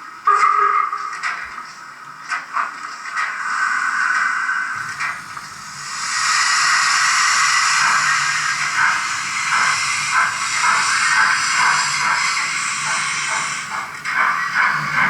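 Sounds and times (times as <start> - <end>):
steam hiss: 2.5 - 15.0
steam locomotive exhaust chuffs: 2.6 - 15.0.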